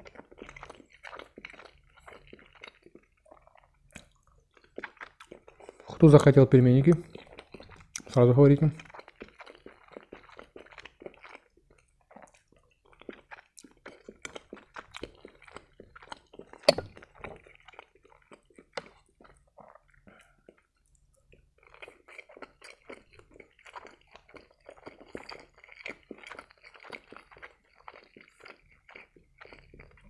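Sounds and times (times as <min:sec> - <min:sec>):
chewing and mouth smacking: 0:00.0 - 0:30.0.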